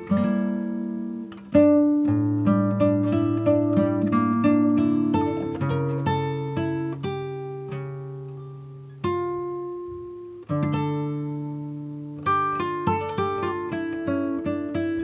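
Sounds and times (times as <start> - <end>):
plucked string instrument: 0.0 - 15.0.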